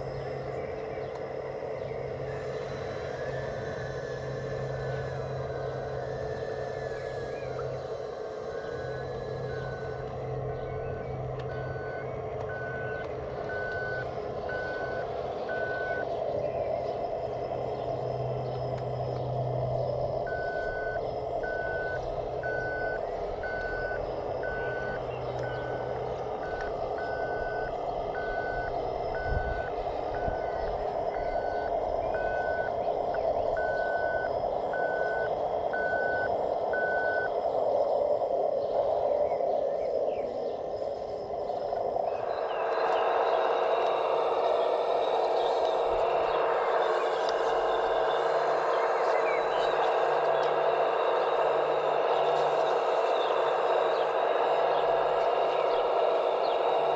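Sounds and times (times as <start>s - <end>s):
reversing beeper: 0.0s - 56.9s
whine of model motors: 0.0s - 56.9s.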